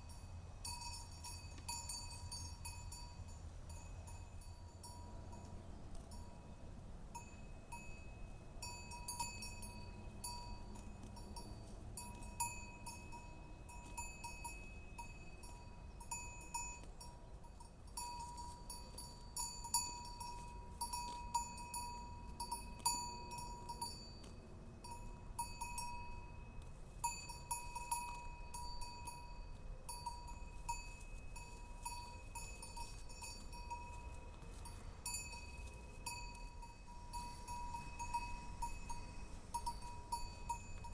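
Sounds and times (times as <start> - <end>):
metal bells clanking: 0.0 - 40.9.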